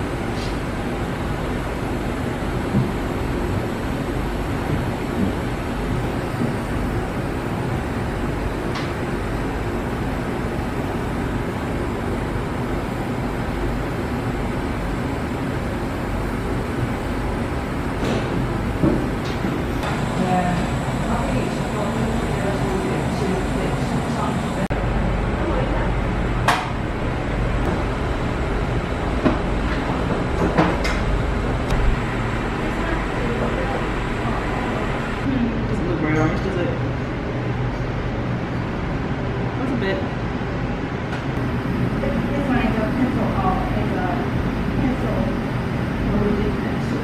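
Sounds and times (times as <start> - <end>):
ventilation rush: 0.0 - 47.0.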